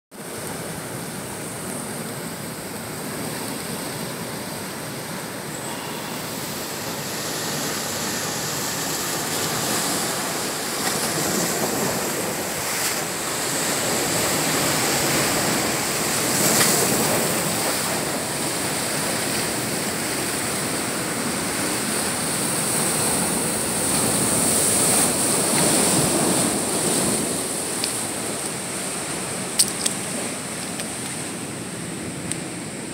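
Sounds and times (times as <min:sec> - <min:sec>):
surf washing on rocks: 0:00.2 - 0:32.9.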